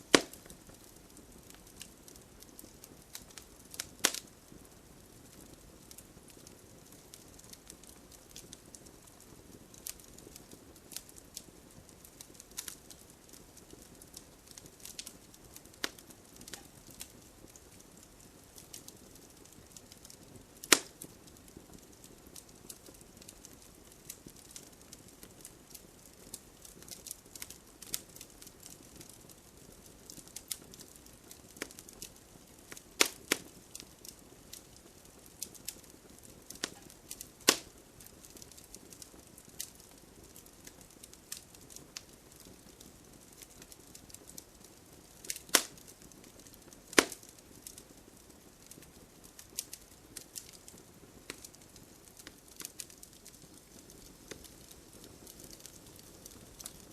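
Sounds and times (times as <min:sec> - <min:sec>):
faint steady hiss: 0:00.0 - 0:56.9
fire crackling: 0:00.0 - 0:56.9
fire popping: 0:00.0 - 0:56.9.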